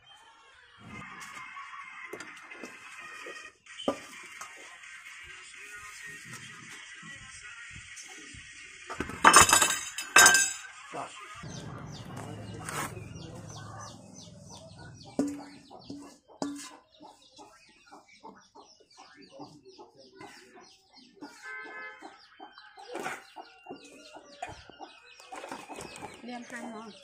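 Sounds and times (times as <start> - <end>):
birds clucking and chirping: 0.0 - 27.0.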